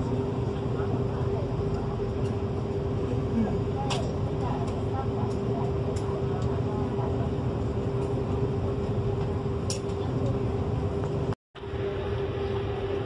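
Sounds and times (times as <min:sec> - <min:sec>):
ferry engine drone: 0:00.0 - 0:13.0.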